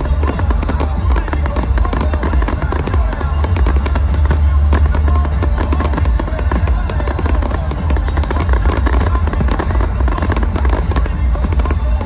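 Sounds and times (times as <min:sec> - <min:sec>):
fireworks banging and crackling: 0:00.0 - 0:12.0
loud show music with bass: 0:00.0 - 0:12.0.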